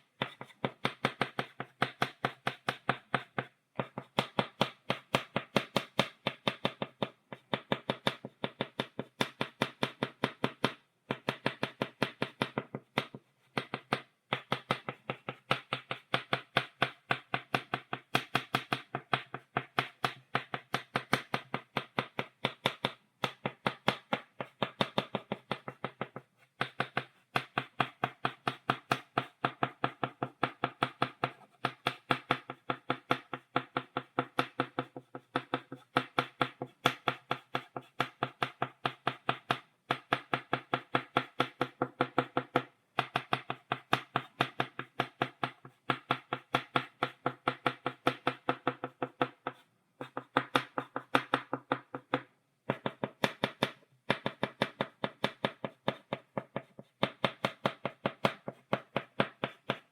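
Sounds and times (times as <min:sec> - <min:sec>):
chalk tapping on blackboard: 0:00.0 - 0:59.9.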